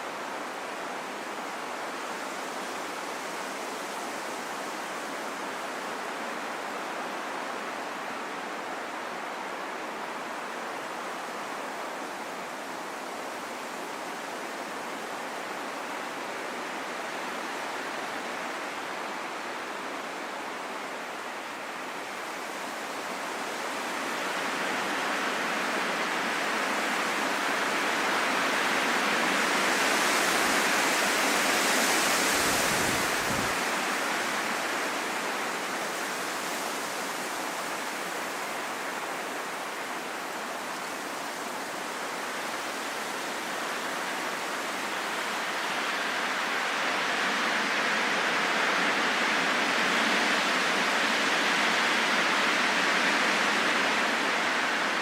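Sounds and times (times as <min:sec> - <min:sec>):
rain falling in forest: 0:00.0 - 0:55.0.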